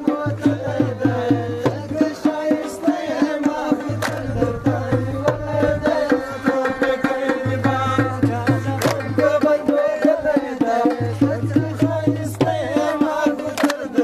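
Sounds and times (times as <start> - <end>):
dhol drum beating fast rhythm: 0.0 - 14.0.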